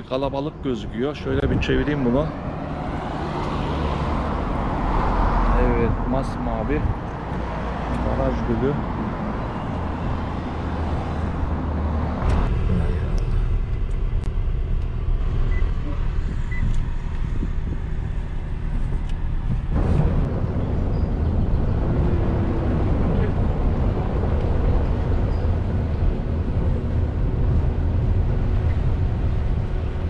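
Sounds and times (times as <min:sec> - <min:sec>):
road noise: 0:00.0 - 0:30.0
wind rumble on microphone: 0:00.0 - 0:30.0.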